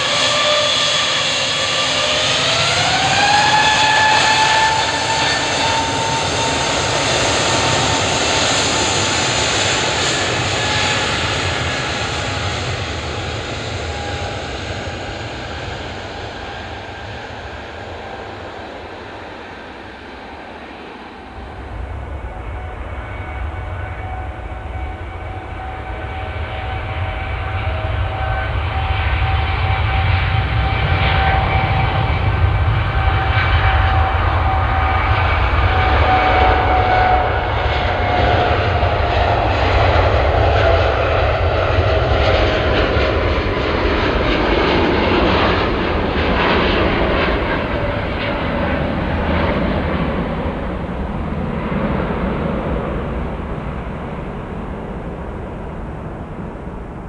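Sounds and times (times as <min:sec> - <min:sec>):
jet airliner passing by: 0:00.0 - 0:57.0.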